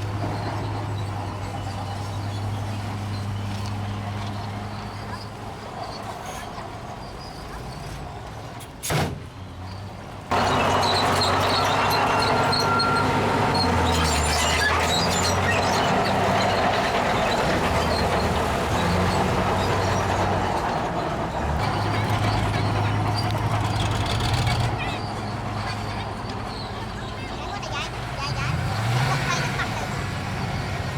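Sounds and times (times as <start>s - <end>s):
heavy diesel machinery engine: 0.0s - 30.9s.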